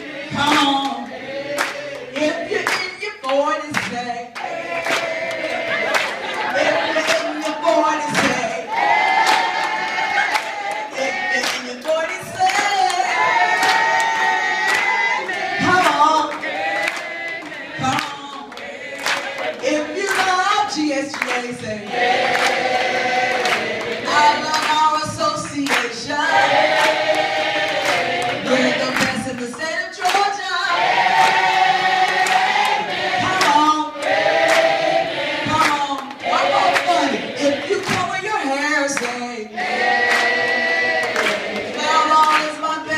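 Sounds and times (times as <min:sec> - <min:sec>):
group singing: 0:00.0 - 0:42.9
people clapping in time: 0:00.3 - 0:42.9.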